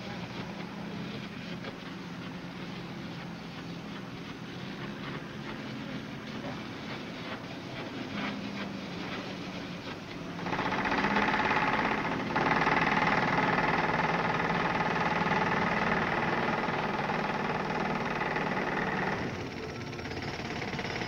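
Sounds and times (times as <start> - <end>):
machinery droning: 0.0 - 21.0.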